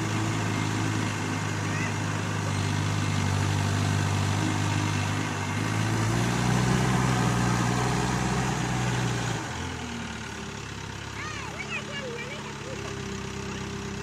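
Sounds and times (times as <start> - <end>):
diesel engine revving: 0.0 - 14.0.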